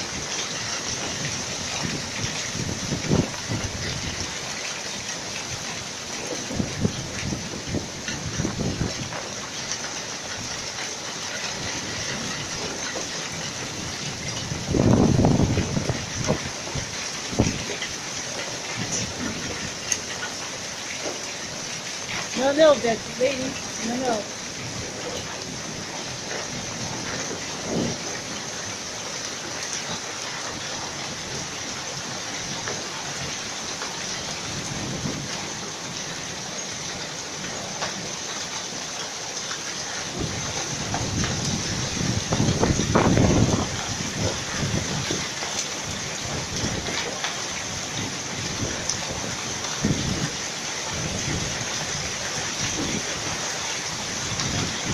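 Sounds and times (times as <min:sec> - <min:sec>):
hailstones ticking: 0:00.0 - 0:54.9
rain hissing: 0:00.0 - 0:54.9.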